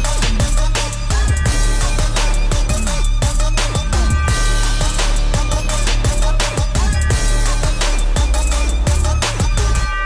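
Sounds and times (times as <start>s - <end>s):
electronic music with sub-bass: 0.0s - 10.0s.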